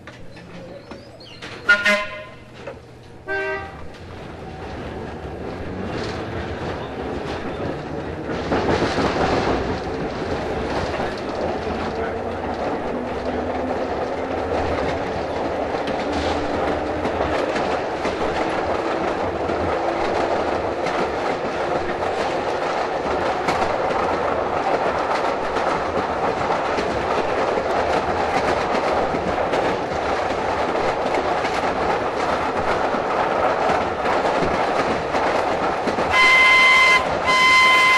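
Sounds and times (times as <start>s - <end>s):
clicks over rail joints: 0.0s - 37.9s
wheel and track noise: 0.0s - 37.9s.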